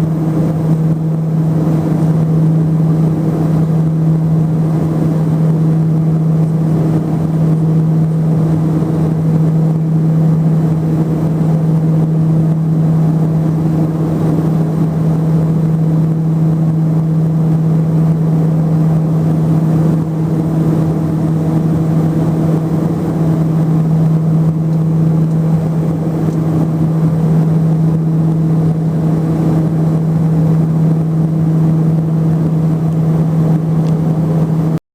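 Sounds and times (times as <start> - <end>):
propeller aircraft cabin drone: 0.0 - 34.8.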